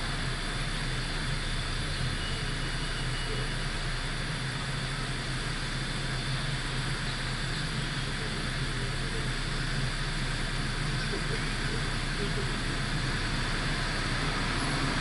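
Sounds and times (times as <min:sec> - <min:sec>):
low engine hum: 0:00.0 - 0:15.0
tyre and wind road noise: 0:00.0 - 0:15.0.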